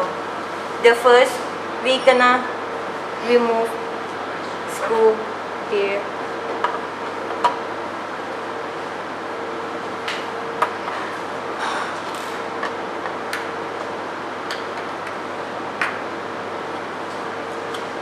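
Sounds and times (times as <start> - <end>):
room noise: 0.0 - 18.0.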